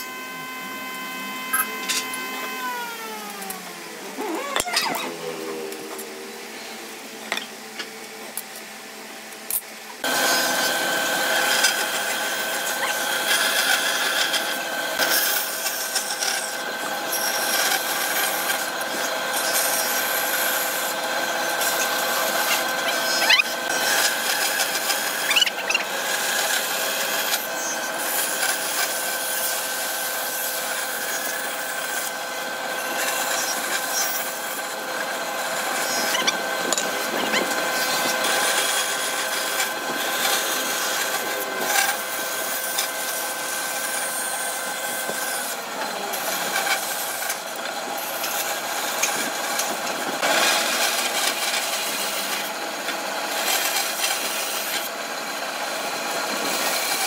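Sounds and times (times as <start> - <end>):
band saw cutting wood: 0.0 - 8.8, 9.5 - 57.0.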